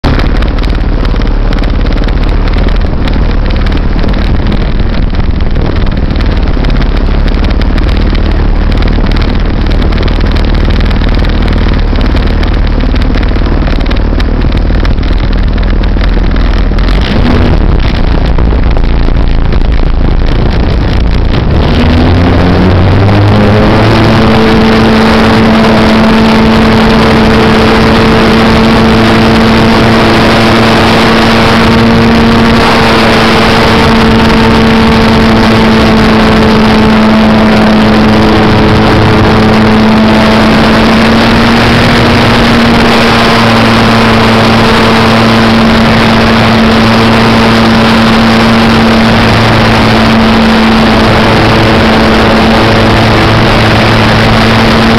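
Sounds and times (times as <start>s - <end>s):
model airplane engine: 0.0s - 54.9s.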